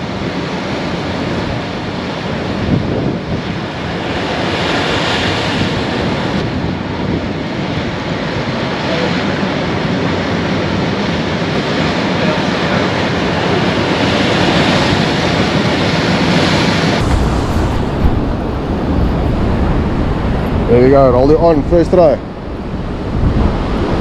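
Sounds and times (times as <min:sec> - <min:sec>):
surf breaking on rocky shore: 0:00.0 - 0:24.0.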